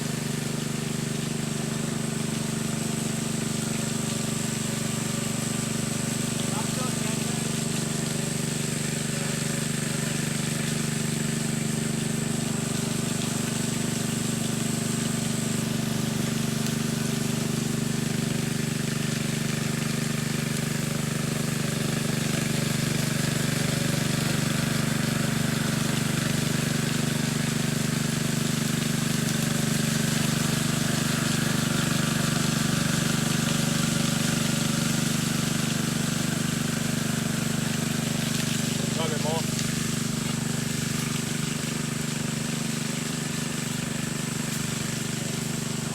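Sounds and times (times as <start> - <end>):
engine droning steadily: 0.0 - 45.9.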